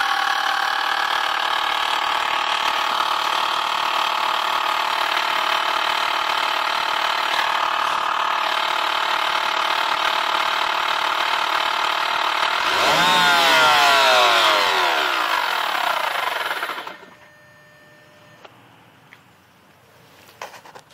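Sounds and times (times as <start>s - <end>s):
car engine running: 0.0s - 17.2s
engine ticking: 0.0s - 17.2s.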